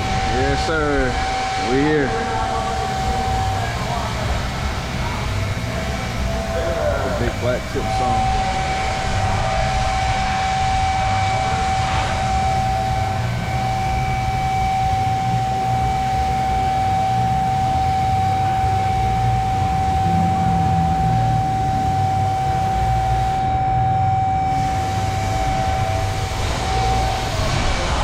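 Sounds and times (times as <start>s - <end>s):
constant whine: 0.0s - 28.0s
low mechanical rumble: 0.0s - 28.0s.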